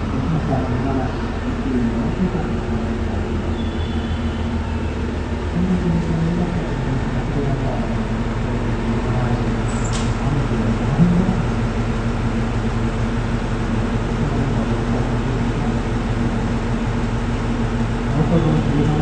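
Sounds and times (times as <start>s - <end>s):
diesel railcar engine idling: 0.0s - 19.0s.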